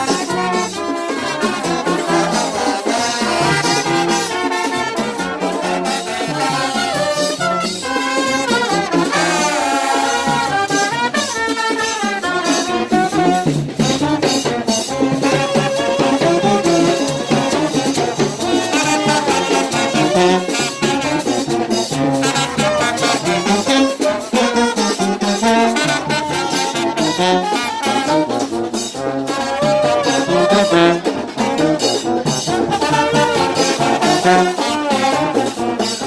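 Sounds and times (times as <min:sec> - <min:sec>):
brass band playing: 0:00.0 - 0:36.0.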